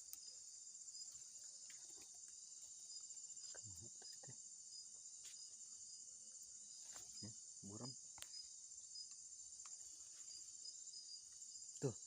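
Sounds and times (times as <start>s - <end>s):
insect chirps: 0.0s - 12.0s
insects trilling: 0.0s - 12.0s.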